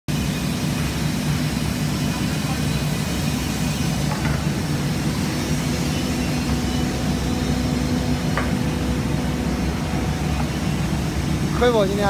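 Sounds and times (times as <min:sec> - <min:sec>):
sanding machine running: 0:00.1 - 0:12.0.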